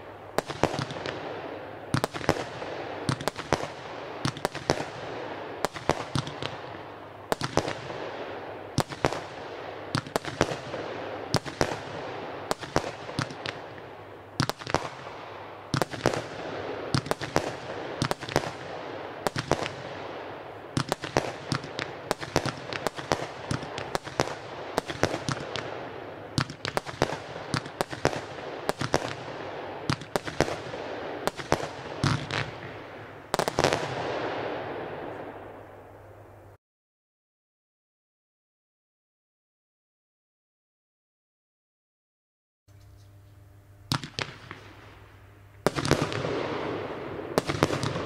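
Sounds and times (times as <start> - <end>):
firework bangs: 0.0 - 35.7, 43.9 - 45.0, 45.6 - 48.0.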